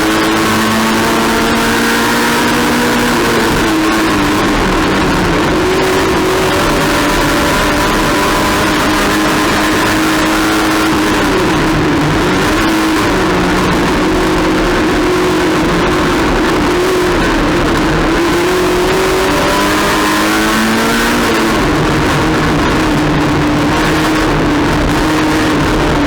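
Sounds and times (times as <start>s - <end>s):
racing car engine revving: 0.0s - 26.0s.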